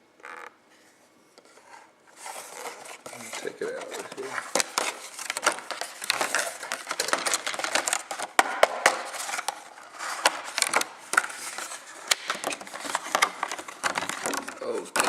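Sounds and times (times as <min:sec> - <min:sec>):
packaging crinkling: 0:02.2 - 0:15.0.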